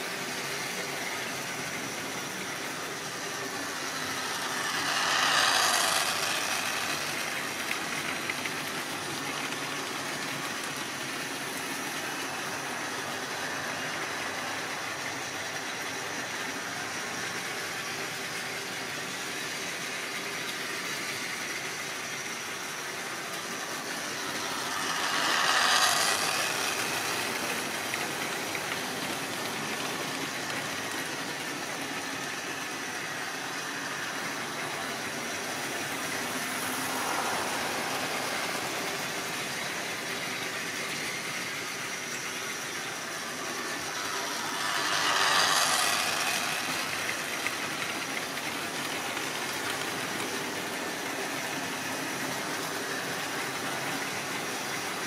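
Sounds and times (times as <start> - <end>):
model trains whirring and rattling: 0.0 - 55.0.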